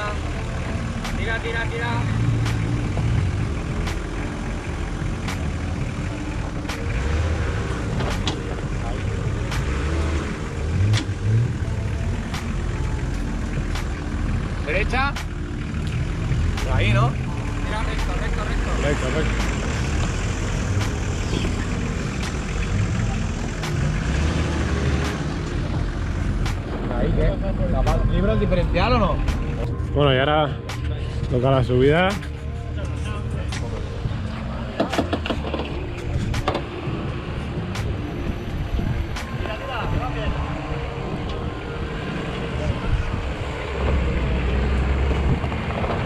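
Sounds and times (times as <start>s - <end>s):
engine running at low revs: 0.0s - 46.0s.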